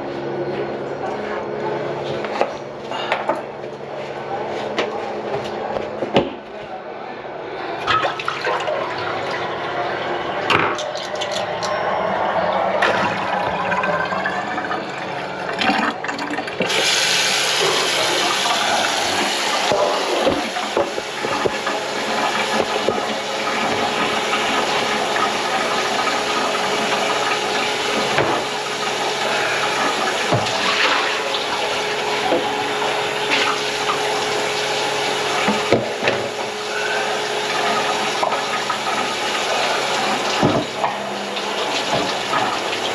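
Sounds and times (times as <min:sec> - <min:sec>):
water running into sink: 0:07.8 - 0:42.9.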